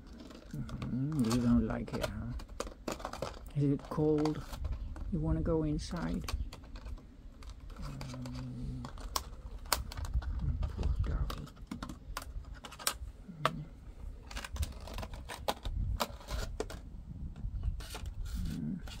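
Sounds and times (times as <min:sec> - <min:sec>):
plastic pot clicking on paving: 0:00.0 - 0:19.0.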